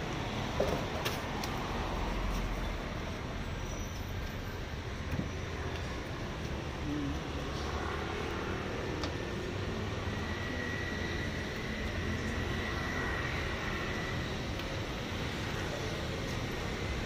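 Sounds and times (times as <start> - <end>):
low rumble of vehicles: 0.0 - 17.0.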